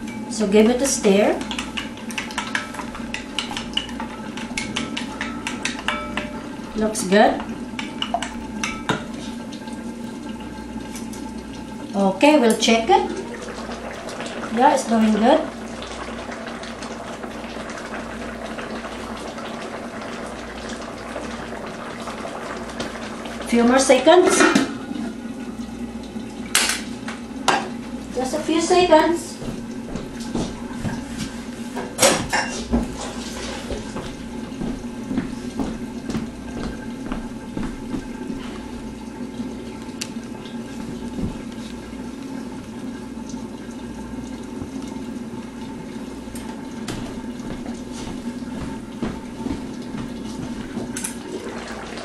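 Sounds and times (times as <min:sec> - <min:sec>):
sauce bubbling and sizzling: 0:00.0 - 0:52.0.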